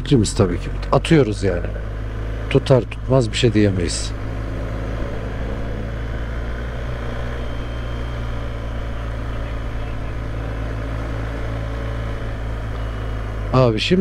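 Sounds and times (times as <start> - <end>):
motorcycle engine humming: 0.0 - 14.0.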